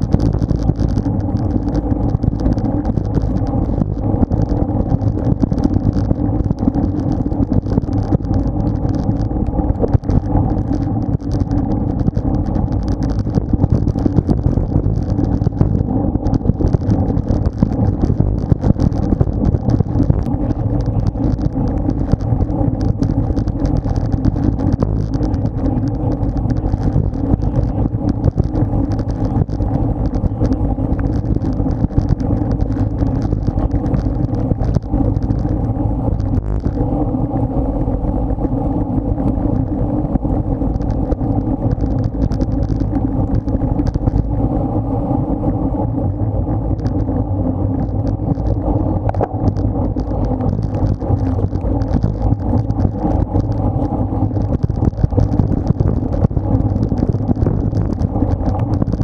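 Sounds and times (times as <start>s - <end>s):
road rumble: 0.0s - 59.0s
wind rush on microphone: 0.0s - 59.0s.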